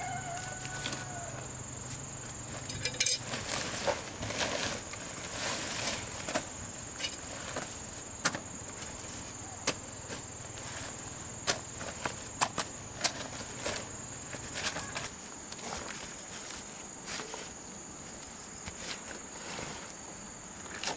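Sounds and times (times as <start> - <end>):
crickets chirring: 0.0 - 20.9.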